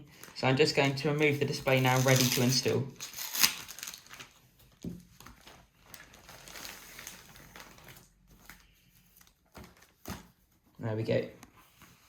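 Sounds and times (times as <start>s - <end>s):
bubble wrap crinkling: 0.0s - 10.3s.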